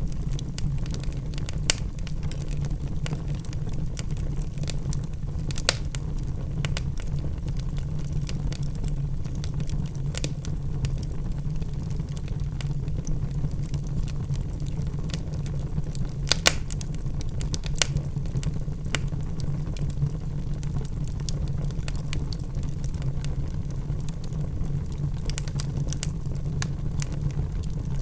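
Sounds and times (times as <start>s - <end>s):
burning wood crackling: 0.0s - 28.0s
fire rumbling: 0.0s - 28.0s.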